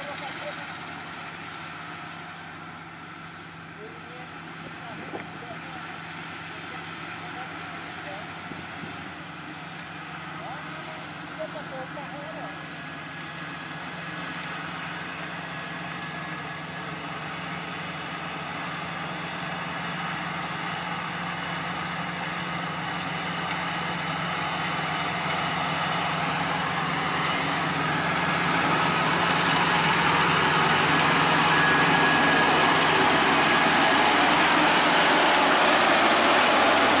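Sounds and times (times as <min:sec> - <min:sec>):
combine harvester engine drone: 0:00.0 - 0:37.0.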